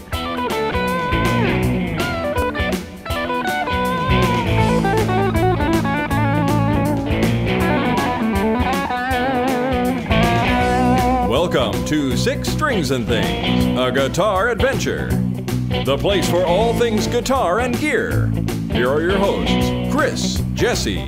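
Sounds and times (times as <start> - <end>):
bass: 0.0 - 21.0
drums: 0.0 - 21.0
electric guitar lead: 0.0 - 21.0.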